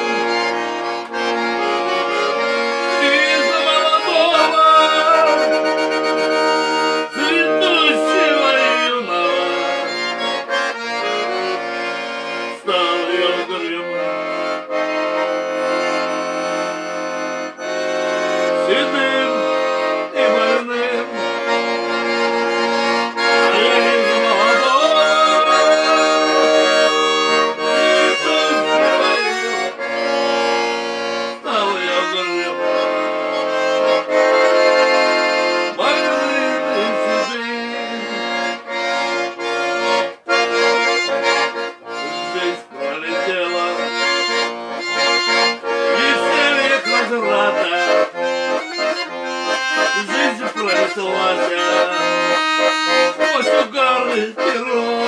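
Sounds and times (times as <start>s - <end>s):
accordion playing: 0.0s - 55.0s.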